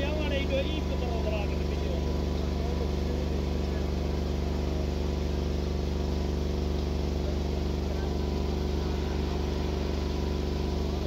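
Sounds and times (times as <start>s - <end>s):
steady engine hum: 0.0s - 11.0s.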